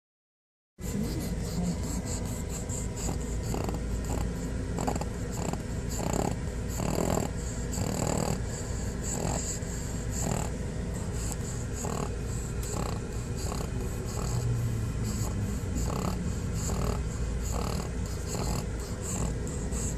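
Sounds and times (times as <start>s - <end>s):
dog snoring heavily: 0.8s - 19.9s.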